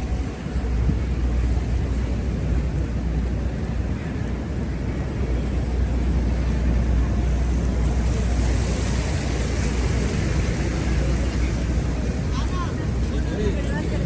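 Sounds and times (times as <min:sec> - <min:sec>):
deep continuous city rumble: 0:00.0 - 0:14.0.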